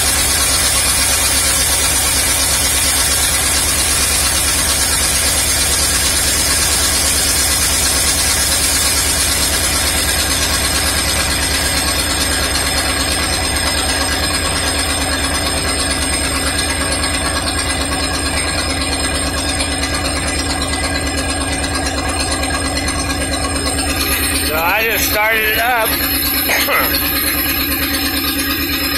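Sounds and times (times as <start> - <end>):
gasoline engine idling: 0.0 - 28.9.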